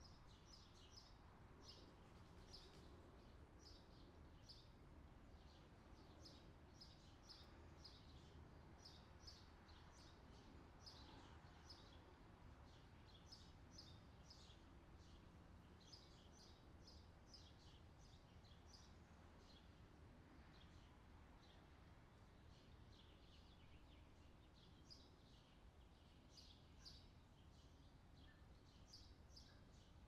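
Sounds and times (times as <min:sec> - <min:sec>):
small birds chirping: 0:00.0 - 0:04.7, 0:05.4 - 0:30.0
low steady background hiss: 0:00.0 - 0:30.0.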